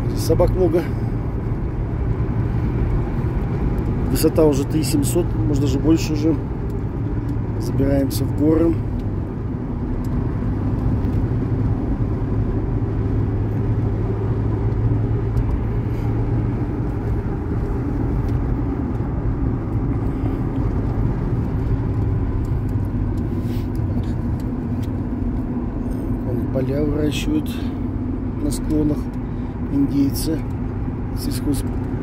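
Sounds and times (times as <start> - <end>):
car engine and tyre hum: 0.0 - 32.0.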